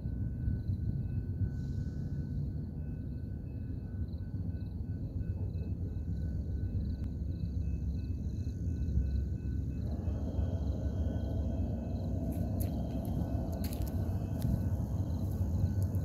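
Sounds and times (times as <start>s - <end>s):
passenger train rumbling: 0.0s - 16.0s.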